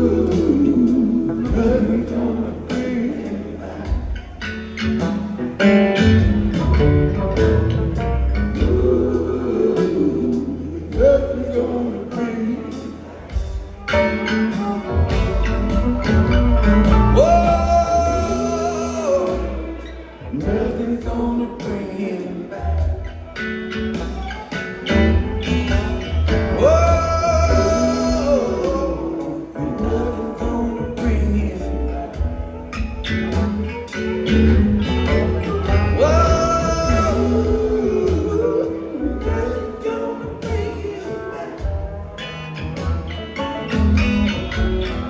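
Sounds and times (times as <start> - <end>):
live band playing: 0.0 - 45.0
person singing: 0.0 - 45.0.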